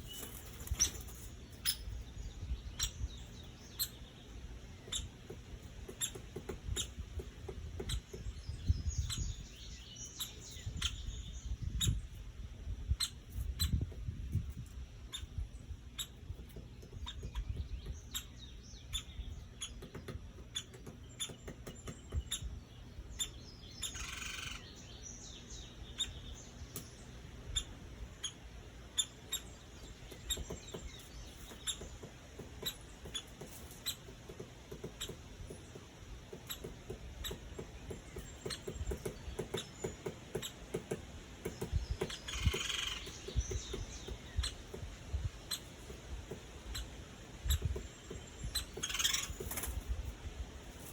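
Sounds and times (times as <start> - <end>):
woodpecker pecking: 0.0 - 11.1, 13.0 - 50.9.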